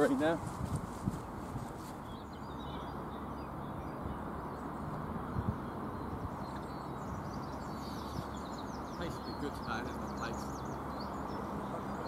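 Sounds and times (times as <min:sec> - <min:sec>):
birds chirping: 0:00.0 - 0:12.0
wind buffeting microphone: 0:00.0 - 0:12.0.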